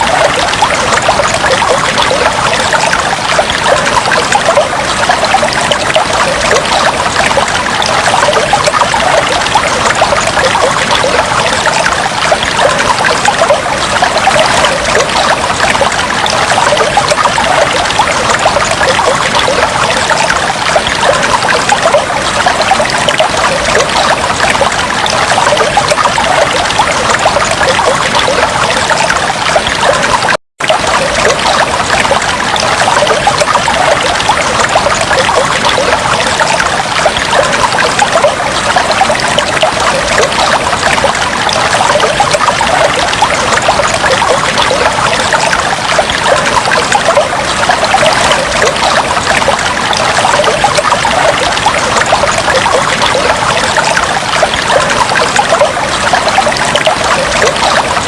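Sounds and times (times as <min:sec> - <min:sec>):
aquarium water trickling and bubbling: 0:00.0 - 0:58.0.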